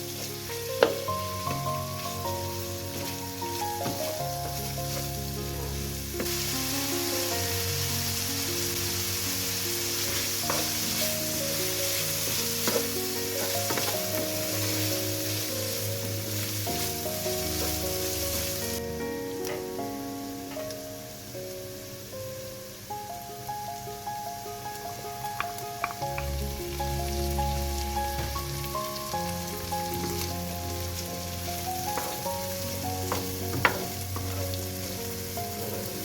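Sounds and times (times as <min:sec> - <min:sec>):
background music: 0:00.0 - 0:36.0
food sizzling in frying pan: 0:00.0 - 0:36.0.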